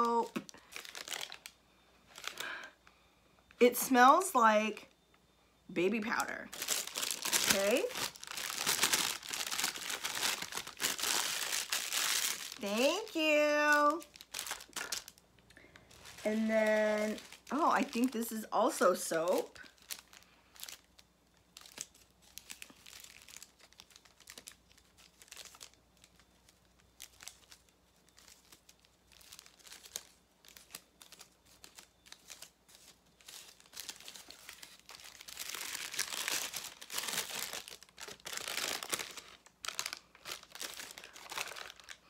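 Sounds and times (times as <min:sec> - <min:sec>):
wrapping paper crinkling and tearing: 0:00.0 - 0:02.6, 0:06.0 - 0:42.0.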